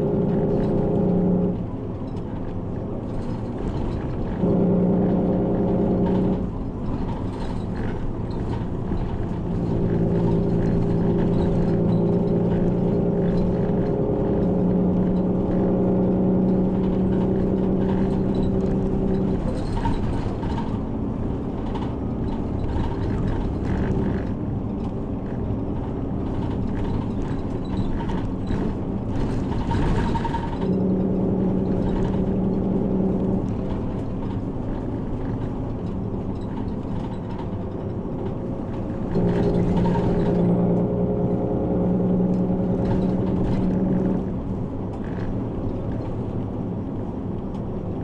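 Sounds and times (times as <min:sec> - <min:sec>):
bus engine rumble: 0:00.0 - 0:48.0.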